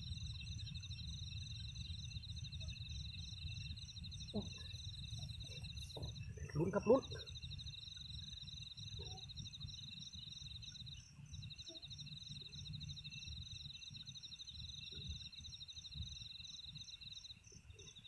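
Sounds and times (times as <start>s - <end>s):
crickets trilling: 0.0s - 18.0s
fast repeated insect chirp: 0.0s - 18.0s.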